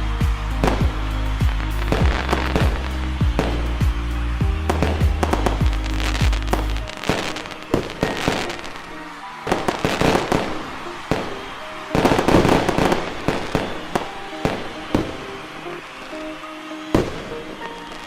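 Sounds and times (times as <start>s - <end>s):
fireworks bangs and crackling: 0.0s - 16.2s, 16.8s - 18.0s
music playing: 0.0s - 18.0s.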